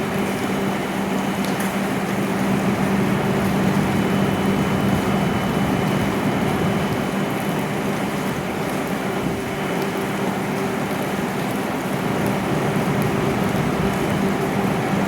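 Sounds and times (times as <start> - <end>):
train equipment and air conditioning hum: 0.0 - 15.0.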